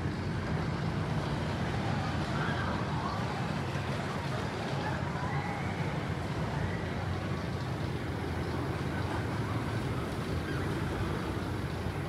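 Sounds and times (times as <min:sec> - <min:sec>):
faint distant voices: 0:00.0 - 0:12.0
low outdoor rumble: 0:00.0 - 0:12.0.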